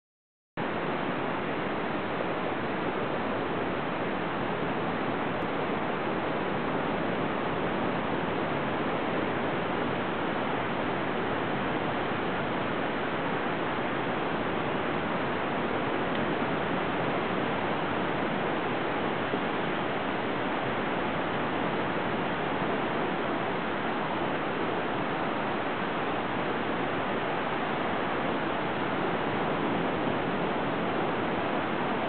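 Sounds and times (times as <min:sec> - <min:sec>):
rushing water: 0:00.6 - 0:32.0.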